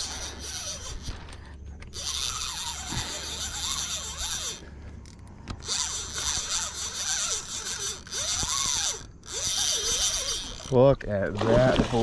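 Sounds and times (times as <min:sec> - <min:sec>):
spinning reel whirring: 0:00.0 - 0:10.8.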